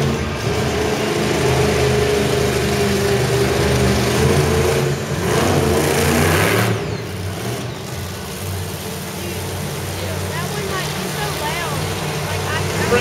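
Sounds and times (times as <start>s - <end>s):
monster truck engine running: 0.0s - 13.0s.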